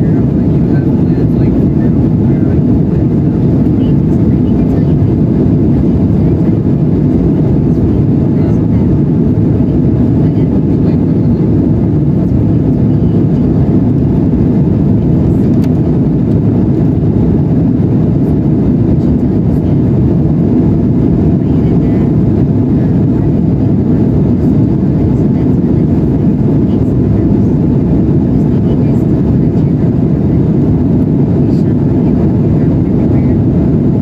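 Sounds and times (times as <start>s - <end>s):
jet airliner cabin drone: 0.0s - 34.0s.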